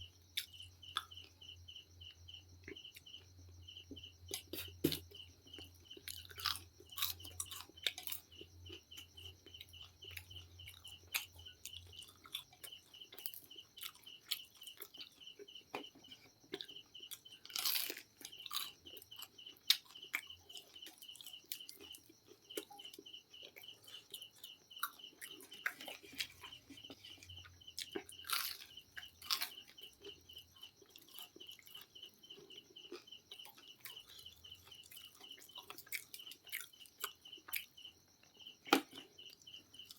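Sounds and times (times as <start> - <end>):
cricket chirping: 0.0 - 39.9
crunching fried chicken: 0.3 - 39.9.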